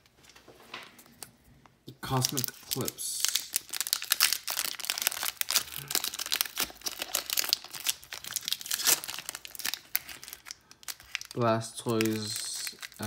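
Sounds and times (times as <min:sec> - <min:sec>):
foil wrapper crinkling: 0:02.0 - 0:13.0.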